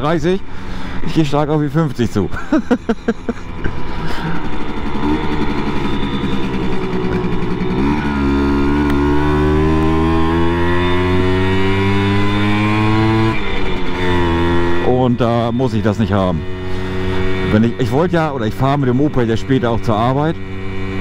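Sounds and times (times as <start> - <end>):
moped two-stroke engine accelerating: 2.3 - 21.0.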